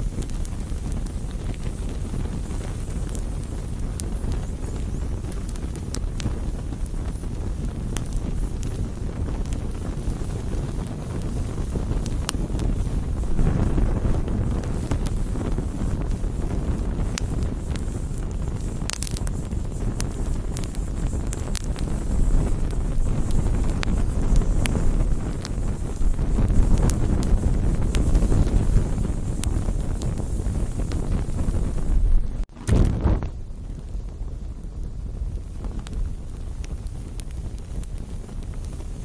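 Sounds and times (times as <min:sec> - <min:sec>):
campfire burning: 0:00.0 - 0:39.0.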